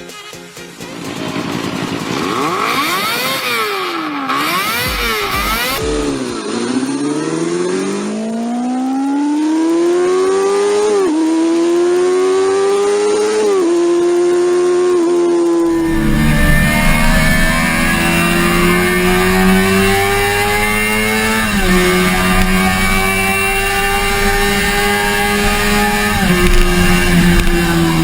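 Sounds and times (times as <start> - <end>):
sport bike engine revving: 0.7 - 28.0.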